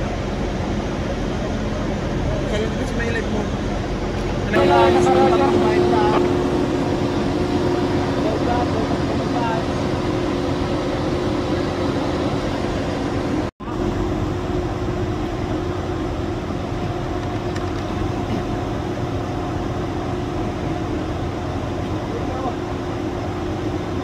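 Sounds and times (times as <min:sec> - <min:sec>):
shipboard machinery drone: 0:00.0 - 0:24.0.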